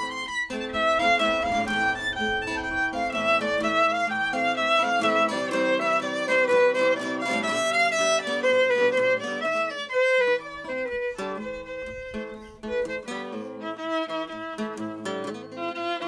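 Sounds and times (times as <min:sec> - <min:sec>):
bowed violin melody: 0:00.0 - 0:14.7
plucked classical guitar: 0:00.0 - 0:16.0.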